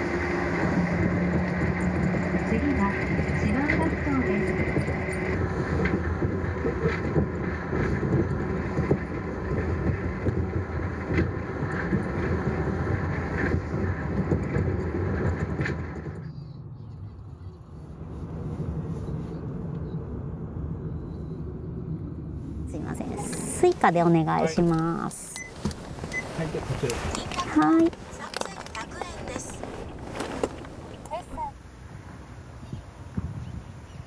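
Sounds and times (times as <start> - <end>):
car driving on street: 0.0 - 34.0
vehicle interior rumble: 0.0 - 34.0.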